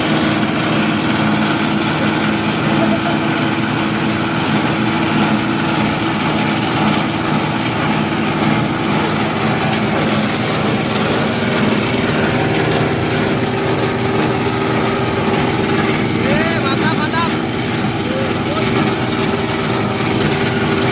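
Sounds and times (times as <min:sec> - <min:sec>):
grinding mill running: 0:00.0 - 0:20.9.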